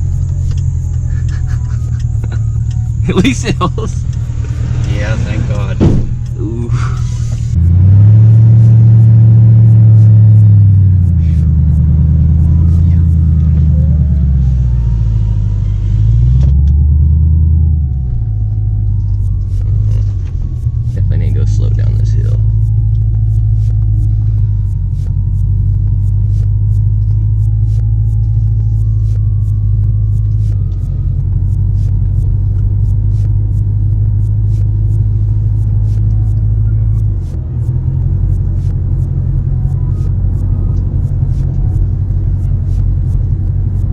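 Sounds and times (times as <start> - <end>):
light irregular ticks: 0.0 - 14.9, 18.2 - 43.9
car exhaust rumbling: 0.0 - 43.9.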